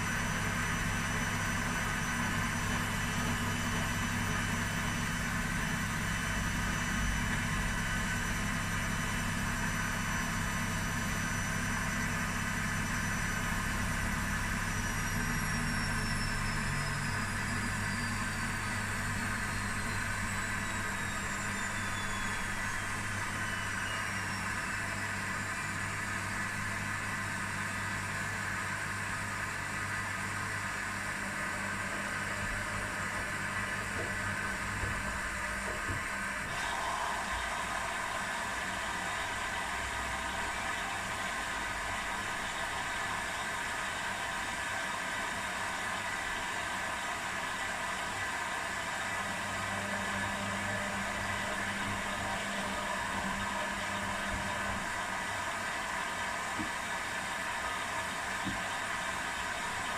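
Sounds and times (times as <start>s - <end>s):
motor whine falling in pitch: 0.0s - 28.2s, 30.2s - 44.2s, 49.0s - 57.0s
washing machines humming: 0.0s - 59.9s.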